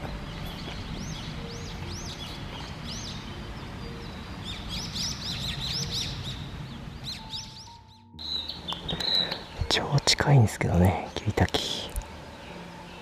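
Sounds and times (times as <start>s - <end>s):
flycatcher singing: 0.0s - 13.0s.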